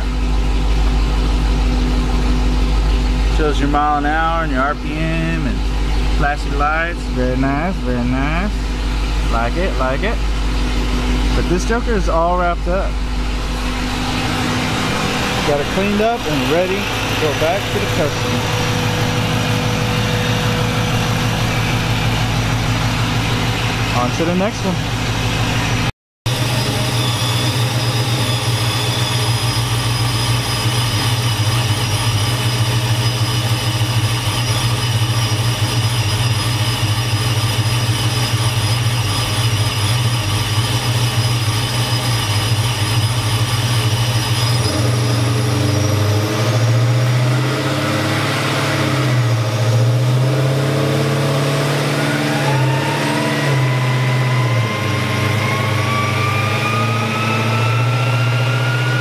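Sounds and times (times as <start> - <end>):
car engine idling: 0.0 - 59.0
engine whine rising in pitch: 0.0 - 59.0.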